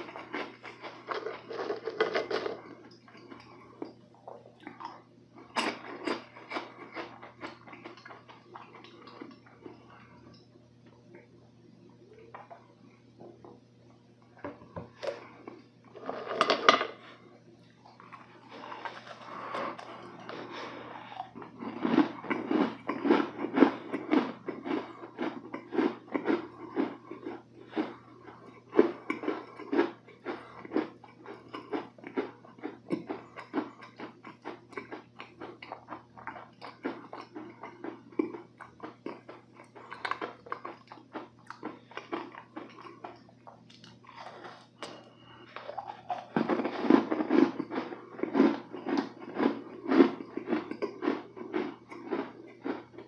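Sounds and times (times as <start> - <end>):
chewing soft cookie: 0.0 - 16.4, 17.1 - 53.0.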